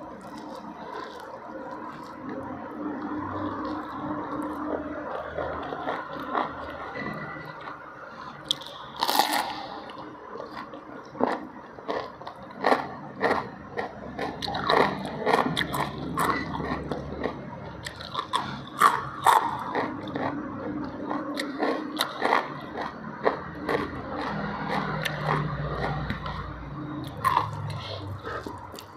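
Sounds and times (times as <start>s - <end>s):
wet chewing: 0.0s - 28.9s.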